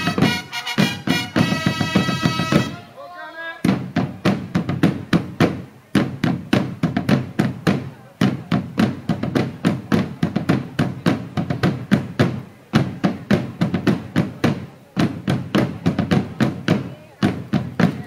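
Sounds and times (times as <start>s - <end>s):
field drums beating a march: 0.0s - 18.0s.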